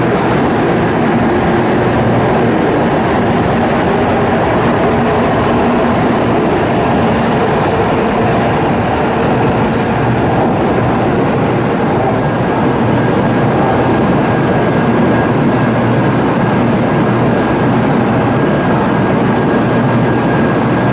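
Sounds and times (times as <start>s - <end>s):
train wheels rumbling: 0.0s - 20.9s.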